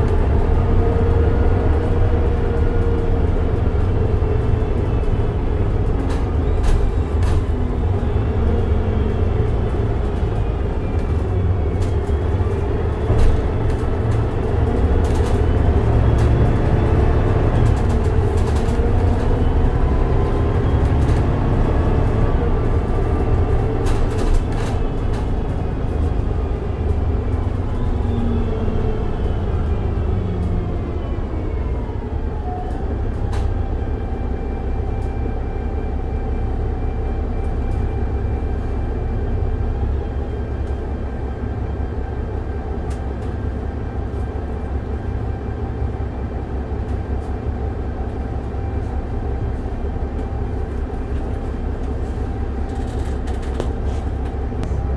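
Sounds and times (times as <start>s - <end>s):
bus engine rumbling: 0.0s - 54.9s.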